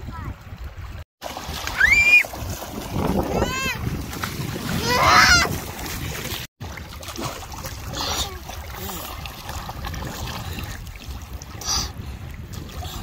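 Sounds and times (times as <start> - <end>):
wind rumble on microphone: 0.0 - 6.5, 7.6 - 13.0
water sloshing and lapping: 0.0 - 13.0.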